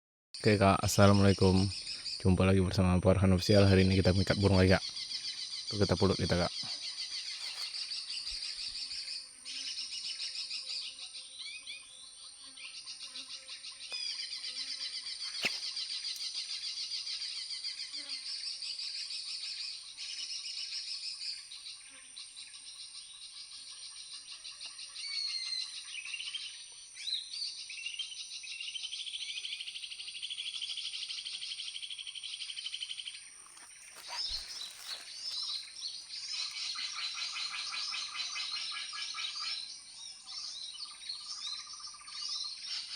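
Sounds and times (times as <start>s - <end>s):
bird chirps: 0.4s - 42.9s
cicadas and crickets trilling: 0.4s - 42.9s.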